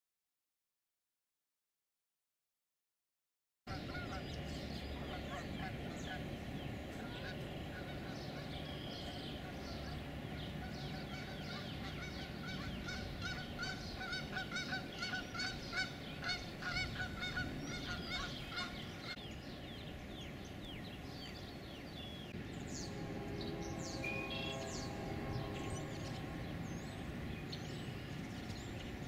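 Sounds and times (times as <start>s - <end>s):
geese honking: 3.7s - 19.6s, 21.0s - 29.0s
low background rumble: 3.7s - 29.0s
small birds chirping: 3.7s - 29.0s.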